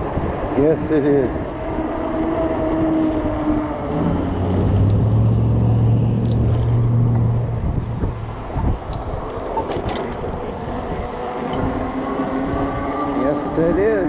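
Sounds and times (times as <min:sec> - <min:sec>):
vehicle engine low hum: 0:00.0 - 0:14.0
wind buffeting microphone: 0:00.0 - 0:14.0.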